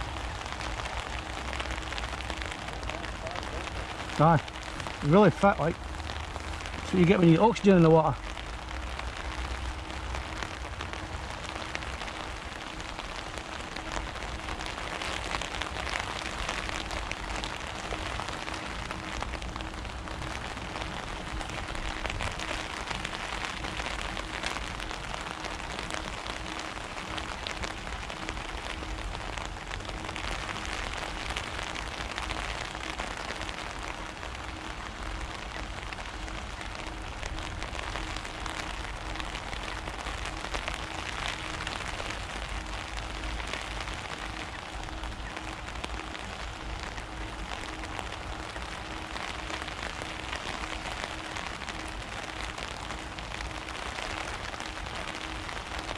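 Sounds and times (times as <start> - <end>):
faint steady hum: 0.0 - 55.9
water pattering on a surface: 0.0 - 55.9.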